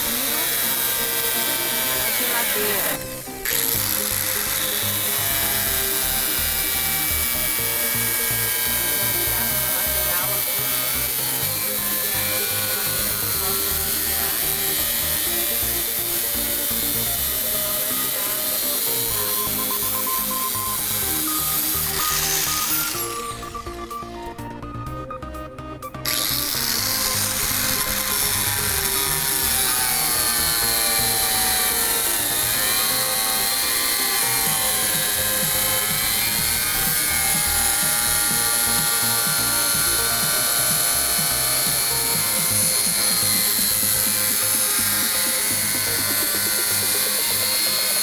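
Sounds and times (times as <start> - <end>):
power tool cutting metal panel: 0.0 - 25.2, 25.8 - 48.0
music: 0.0 - 48.0.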